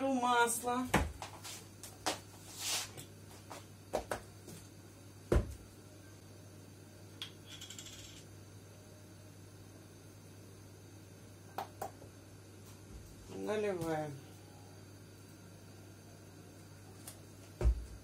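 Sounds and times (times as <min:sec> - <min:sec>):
faint low hum: 0:03.1 - 0:18.0.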